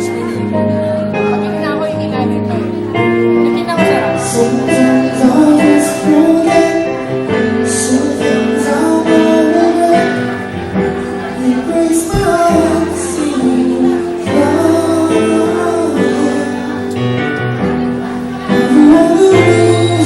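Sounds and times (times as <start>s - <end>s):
live acoustic band music: 0.0s - 20.0s
person singing: 3.5s - 20.0s.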